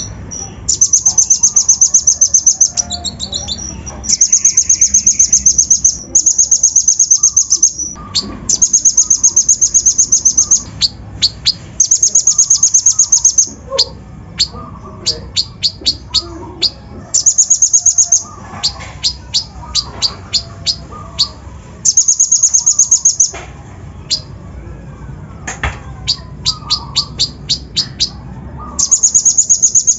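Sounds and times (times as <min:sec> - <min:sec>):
sunbird singing high trills: 0:00.0 - 0:23.3, 0:26.0 - 0:29.9
sharp bird chirps: 0:00.0 - 0:23.4, 0:26.0 - 0:29.9.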